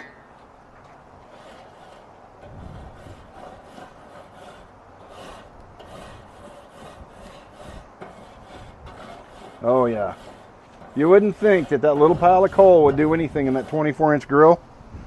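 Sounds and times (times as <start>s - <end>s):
grill brush scraping a grate: 0.3s - 14.6s.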